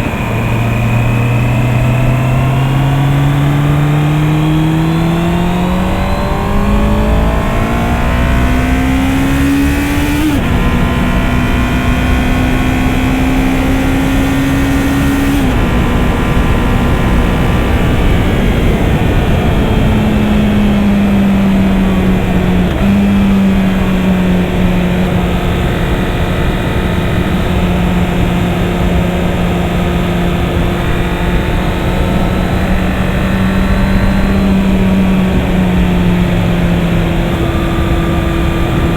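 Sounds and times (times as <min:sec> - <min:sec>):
motorcycle engine accelerating: 0:00.0 - 0:38.9
wind and road noise: 0:00.0 - 0:38.9.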